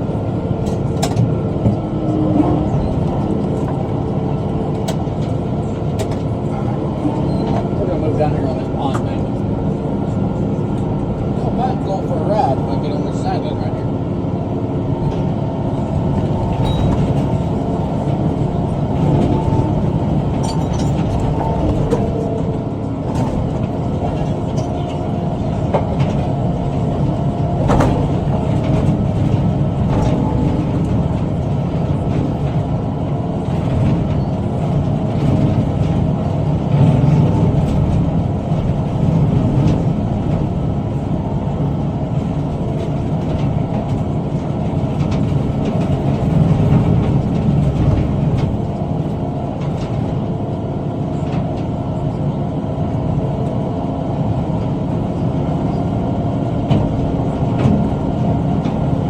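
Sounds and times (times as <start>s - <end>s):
tractor engine and mower drone: 0.0s - 59.0s.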